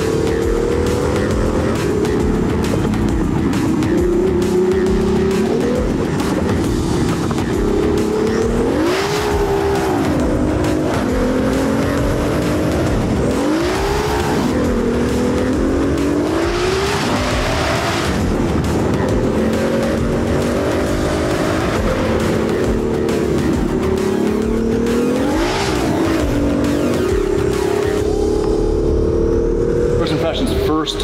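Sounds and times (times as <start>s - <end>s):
car engine at full throttle: 0.0s - 31.0s.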